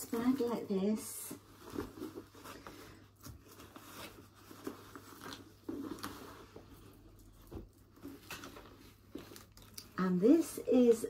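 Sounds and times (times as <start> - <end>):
cloth bag rustling: 0.0 - 11.0.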